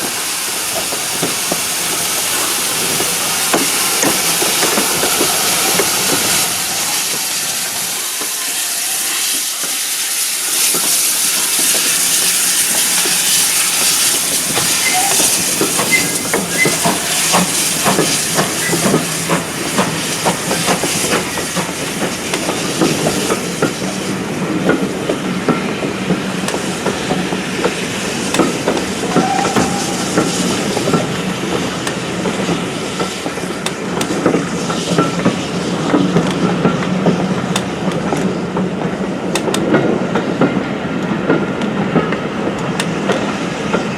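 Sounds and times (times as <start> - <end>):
steam hiss: 0.0 - 43.9
train wheels clicking over rail joints: 0.0 - 43.9.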